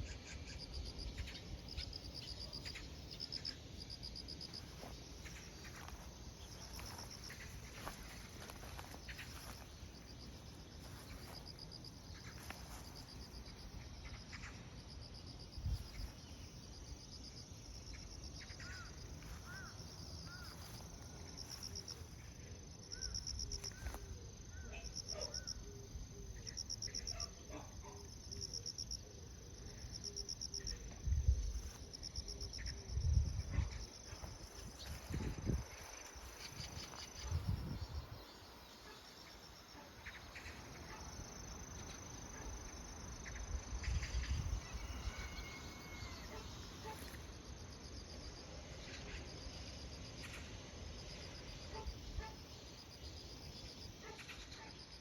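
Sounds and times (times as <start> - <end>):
insects chirping and trilling: 0.0 - 55.0.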